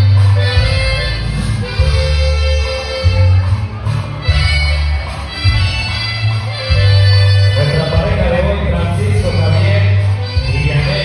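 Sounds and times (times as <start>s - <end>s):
loud dance music: 0.0s - 11.0s.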